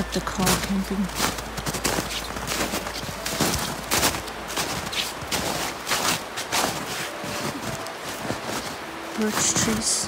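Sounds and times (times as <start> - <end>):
footsteps crunching in snow: 0.0 - 10.0.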